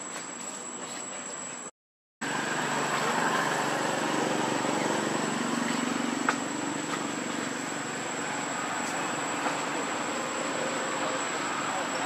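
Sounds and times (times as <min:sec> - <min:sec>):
engine drone: 0:02.2 - 0:12.0.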